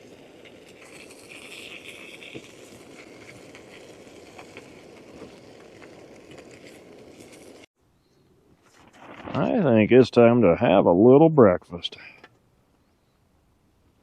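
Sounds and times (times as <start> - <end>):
faint outdoor noise: 0.0 - 14.0.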